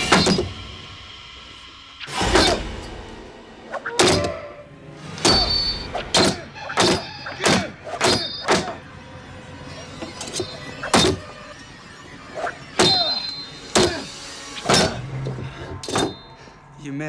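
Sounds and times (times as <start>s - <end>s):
blade chopping heavy thunks: 0.0s - 1.0s, 2.1s - 8.9s, 10.0s - 11.6s, 12.3s - 16.7s.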